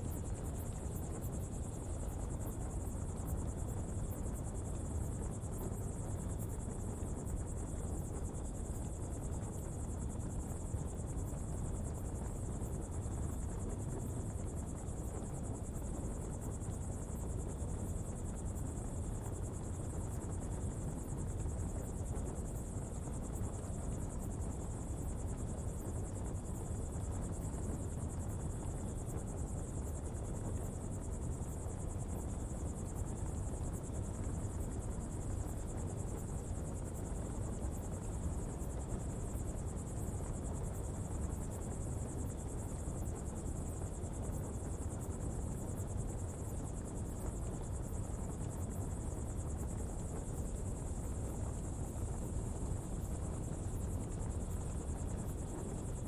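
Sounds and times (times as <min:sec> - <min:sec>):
fire burning with low rumble: 0:00.0 - 0:56.0
high-pitched insect trill: 0:00.0 - 0:56.0.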